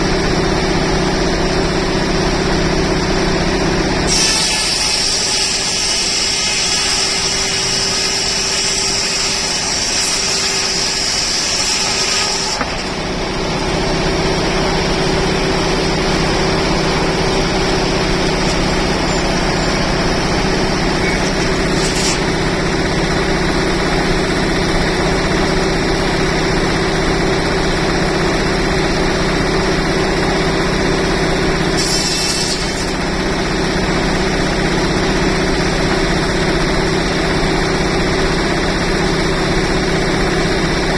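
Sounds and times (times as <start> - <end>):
low mechanical hum: 0.0 - 40.7
high-pitched machine whine: 0.0 - 40.9.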